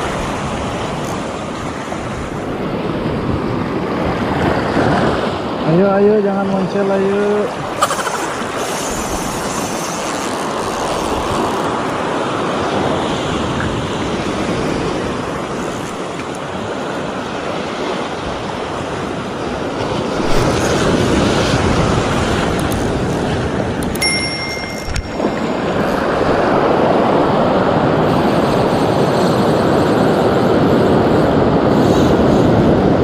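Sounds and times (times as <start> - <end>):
sea waves washing onto shore: 0.0 - 33.0.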